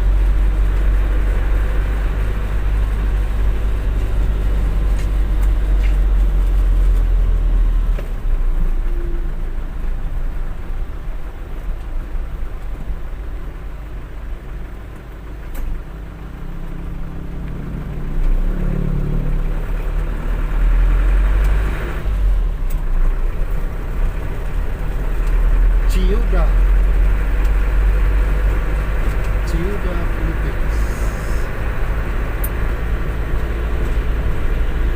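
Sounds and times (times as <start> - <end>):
truck engine and road rumble: 0.0 - 34.9.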